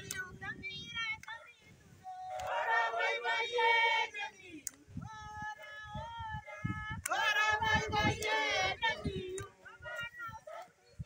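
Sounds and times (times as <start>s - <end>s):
group singing call and response: 0.0s - 11.0s.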